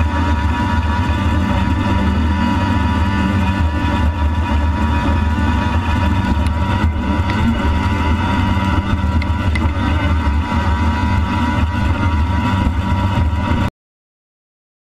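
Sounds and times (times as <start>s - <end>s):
jet ski engine running hard: 0.0s - 13.7s
wind: 0.0s - 13.7s.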